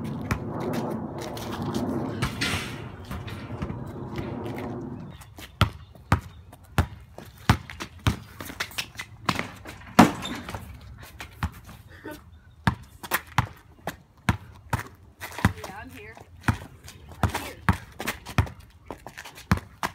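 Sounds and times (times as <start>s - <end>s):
basketball bouncing on concrete: 0.0s - 1.5s, 2.2s - 11.7s, 12.6s - 19.9s.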